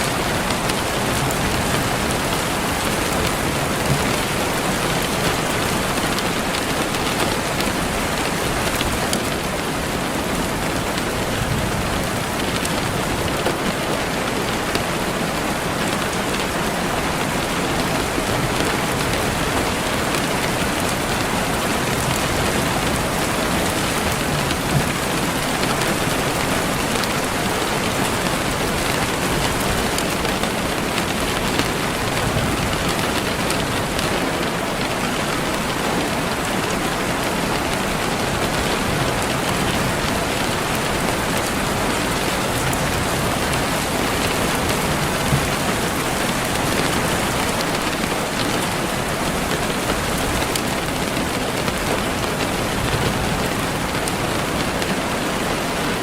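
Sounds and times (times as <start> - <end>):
rain pattering on a surface: 0.0 - 56.0.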